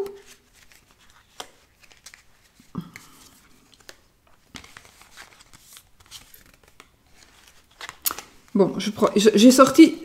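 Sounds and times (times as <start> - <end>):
cards clicking and rustling: 0.0 - 9.8.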